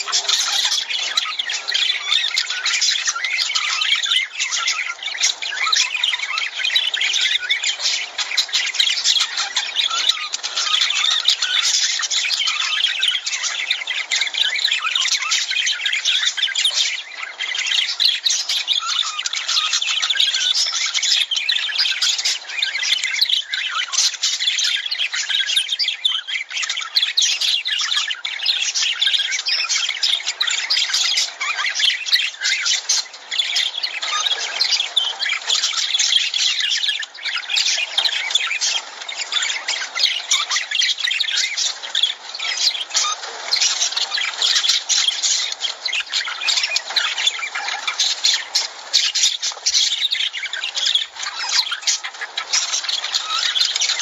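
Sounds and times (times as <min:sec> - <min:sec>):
lovebirds chattering: 0:00.0 - 0:54.0.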